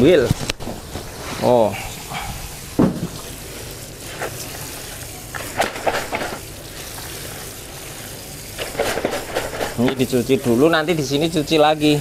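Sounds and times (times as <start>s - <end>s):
water spraying from hose nozzle: 0.9s - 12.0s.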